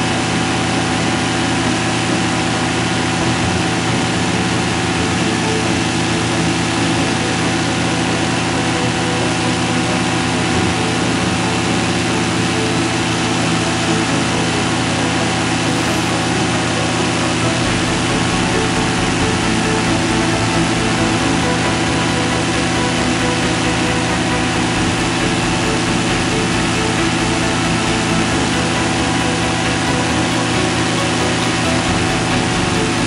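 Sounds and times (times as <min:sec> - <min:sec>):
paramotor engine droning: 0:00.0 - 0:33.0.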